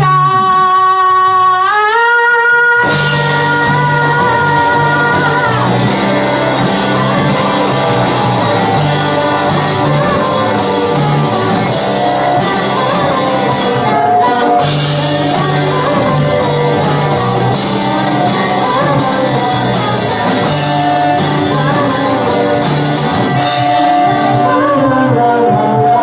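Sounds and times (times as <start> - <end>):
live rock band playing: 0.0 - 26.0
person singing: 0.0 - 26.0
pulsing bass line: 2.9 - 26.0.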